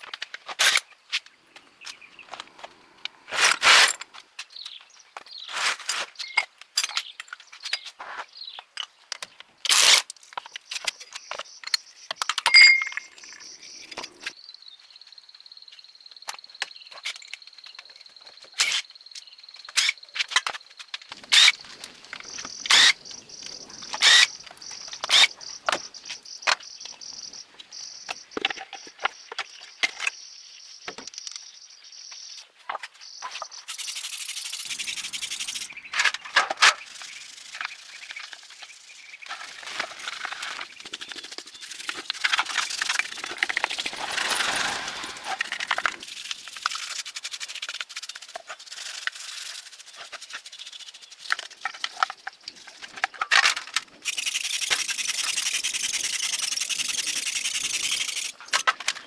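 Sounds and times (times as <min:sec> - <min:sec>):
insects chirring: 0:09.8 - 0:58.8.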